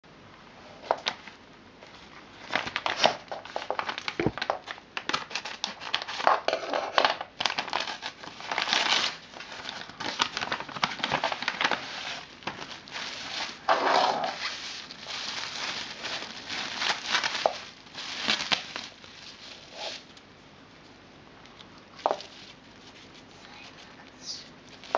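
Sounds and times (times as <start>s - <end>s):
packaging crinkling and rustling: 0.8s - 20.3s, 21.6s - 23.9s, 24.6s - 24.9s.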